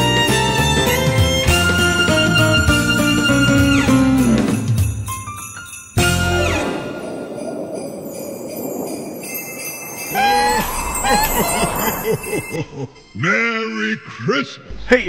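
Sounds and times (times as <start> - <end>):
sleigh bells jingling: 0.0 - 13.4.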